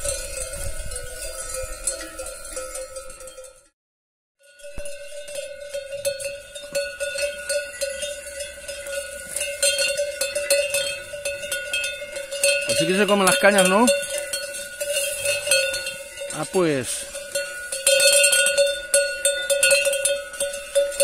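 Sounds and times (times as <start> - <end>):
metal cowbell clanking: 0.0 - 3.7, 4.4 - 21.0.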